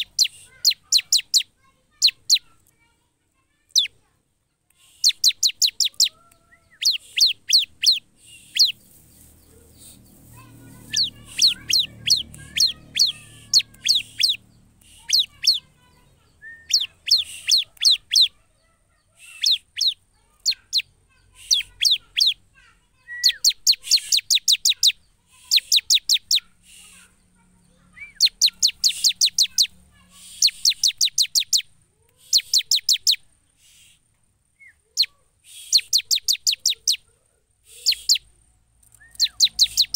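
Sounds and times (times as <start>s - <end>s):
bird chattering song: 0.0s - 2.7s, 3.5s - 4.1s, 4.8s - 34.0s, 34.6s - 39.9s.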